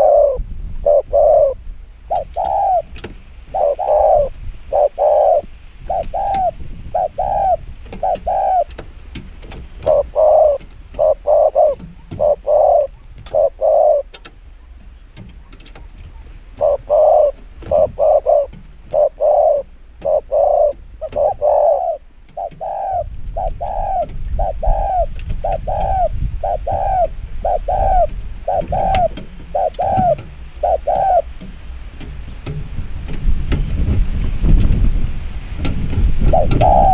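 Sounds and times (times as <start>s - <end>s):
dove cooing: 0.0s - 32.6s, 35.6s - 36.9s.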